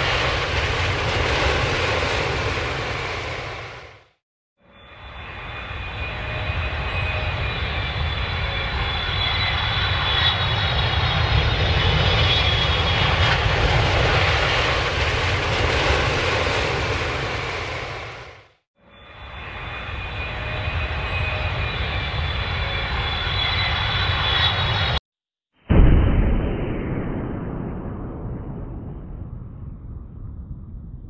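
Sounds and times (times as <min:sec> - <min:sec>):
low-flying airplane engines: 0:00.0 - 0:25.0, 0:26.6 - 0:31.0.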